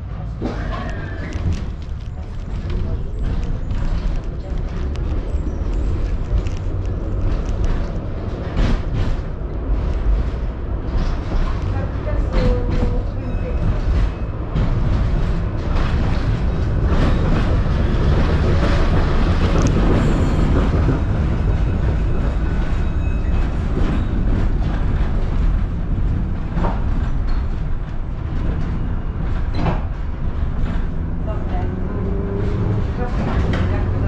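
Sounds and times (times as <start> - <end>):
tram wheels rumbling: 0.0 - 34.0
wheels clacking over rail joints: 0.2 - 34.0.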